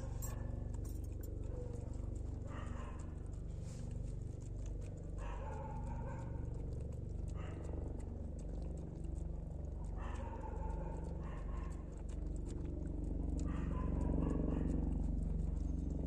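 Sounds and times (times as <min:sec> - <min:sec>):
dog chewing and lapping: 0:00.0 - 0:16.0
low hum: 0:00.0 - 0:16.0.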